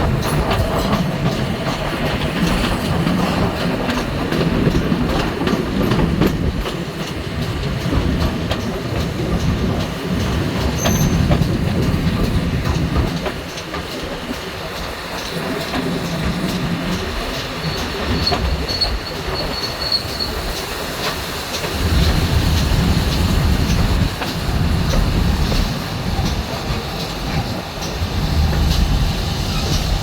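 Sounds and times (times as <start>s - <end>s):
train wheels rumbling on rails: 0.0s - 30.0s
wheels clicking over rail joints: 0.0s - 30.0s.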